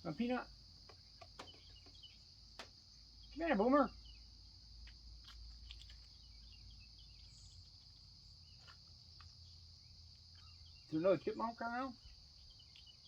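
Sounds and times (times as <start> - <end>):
crickets chorus: 0.0 - 13.0.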